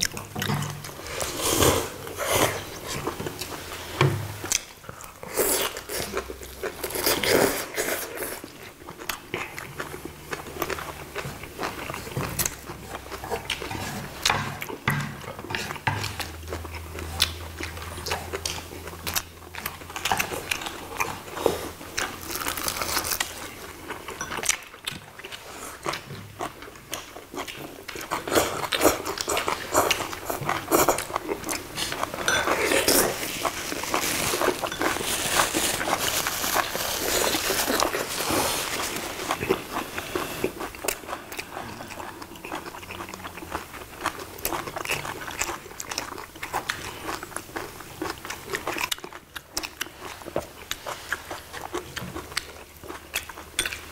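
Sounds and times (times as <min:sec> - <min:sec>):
chewing: 0:00.0 - 0:53.9.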